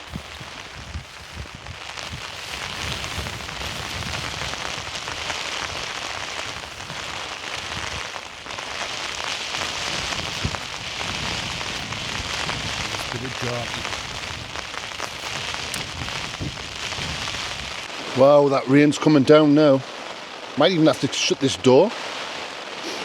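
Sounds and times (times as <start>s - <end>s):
heavy rain on a tent: 0.0s - 23.0s.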